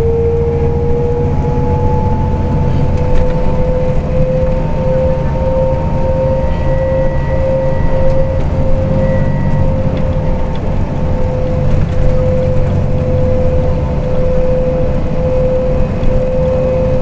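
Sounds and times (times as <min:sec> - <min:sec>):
bus engine and tyres rumbling: 0:00.0 - 0:17.0
high drivetrain whine: 0:00.0 - 0:17.0.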